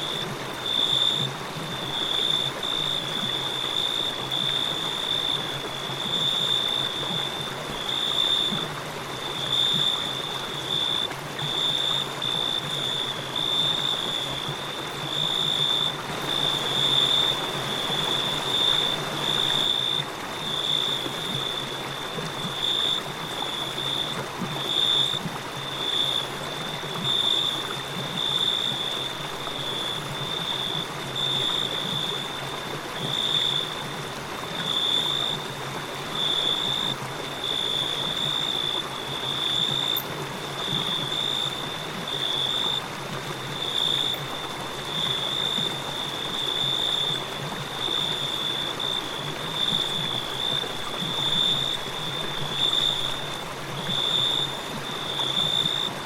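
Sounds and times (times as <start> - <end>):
crickets chirping: 0.0 - 56.0
river flowing: 0.0 - 56.0.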